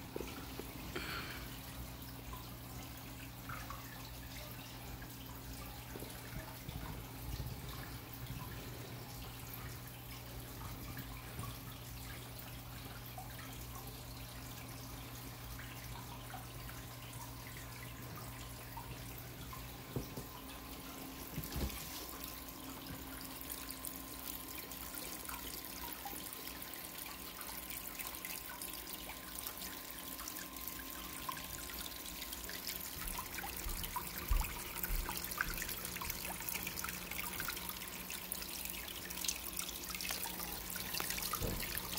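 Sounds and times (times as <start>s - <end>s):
low steady hum: 0.0s - 41.9s
water trickling and dripping: 0.0s - 41.9s.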